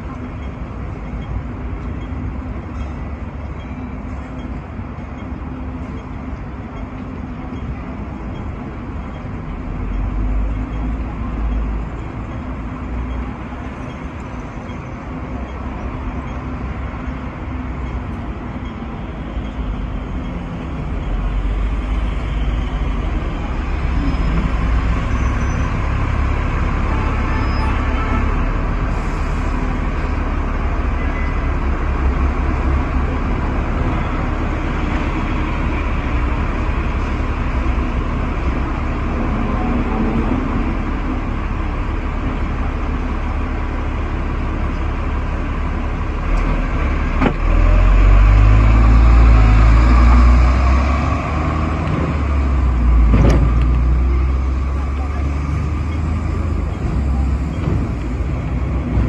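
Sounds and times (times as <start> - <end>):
road traffic: 0.0 - 59.0
tram running rumble: 0.0 - 59.0.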